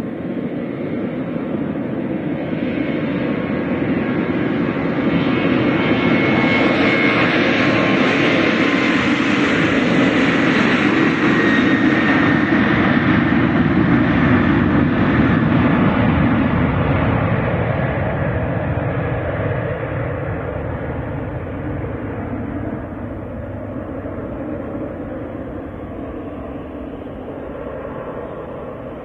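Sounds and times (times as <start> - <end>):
jet airliner passing: 0.0 - 29.0.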